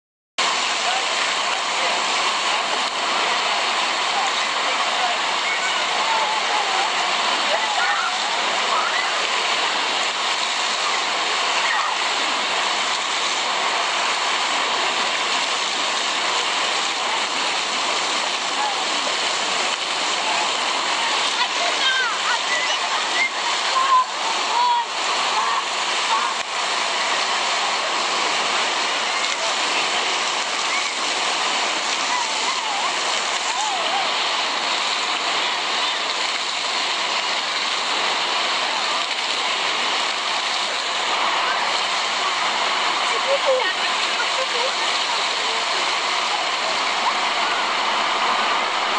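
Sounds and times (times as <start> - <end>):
fountain water jets splattering: 0.4 - 48.9.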